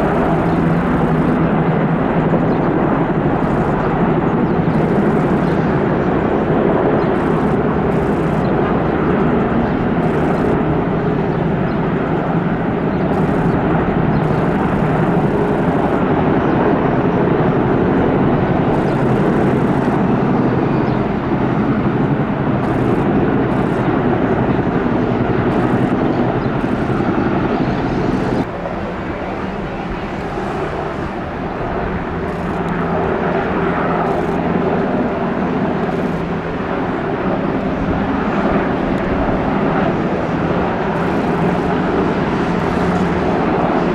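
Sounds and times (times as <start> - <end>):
helicopters passing overhead: 0.0 - 43.9.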